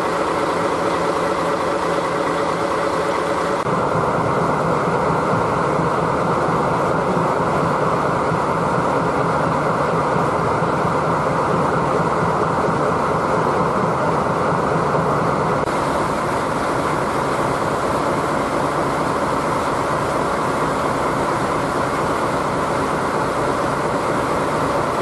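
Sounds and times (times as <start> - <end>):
train rushing noise: 0.0 - 25.0.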